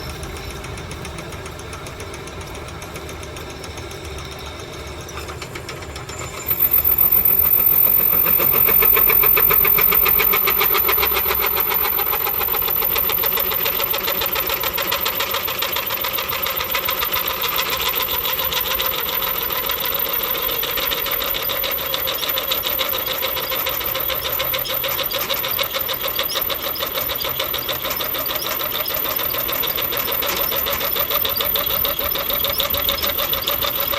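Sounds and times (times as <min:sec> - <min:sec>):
electric drill boring into steel: 0:05.9 - 0:33.9.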